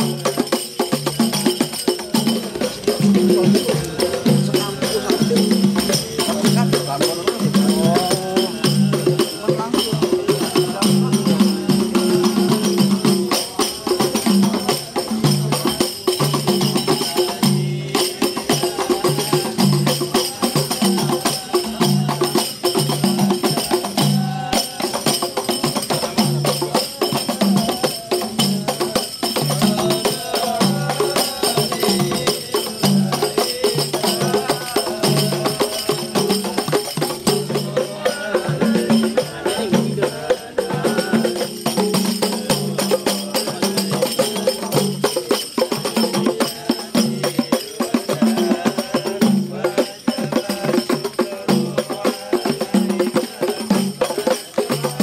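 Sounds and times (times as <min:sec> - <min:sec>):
frame drums beating: 0:00.0 - 0:55.0.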